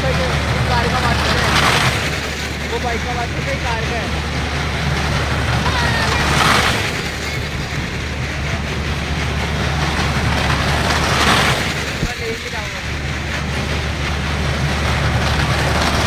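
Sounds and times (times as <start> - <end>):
crowd noise: 0.0 - 16.0
motor engines humming: 0.0 - 16.0.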